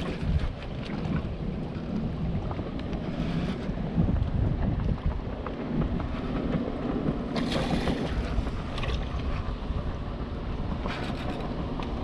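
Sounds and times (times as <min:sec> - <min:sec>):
water lapping against boat: 0:00.0 - 0:12.0
wind buffeting microphone: 0:00.0 - 0:12.0.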